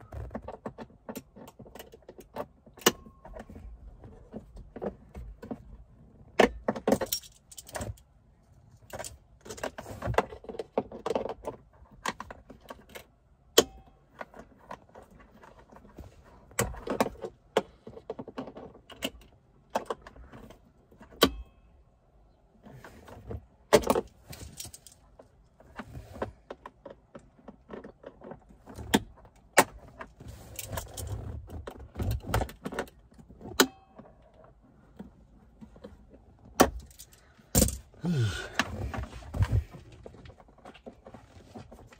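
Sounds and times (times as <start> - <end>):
tools and plastic parts rattling: 0.0 - 21.3, 22.6 - 41.9.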